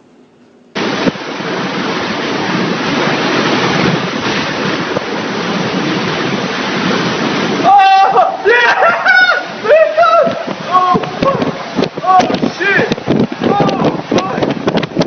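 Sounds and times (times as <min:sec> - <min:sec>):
storm wind blasting microphone: 0:00.8 - 0:15.0.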